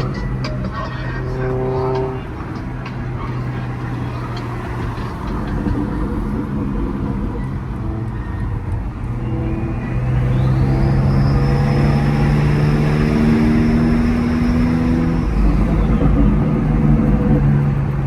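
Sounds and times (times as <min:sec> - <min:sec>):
high whine: 0:00.0 - 0:17.8
car engine accelerating: 0:00.0 - 0:18.0.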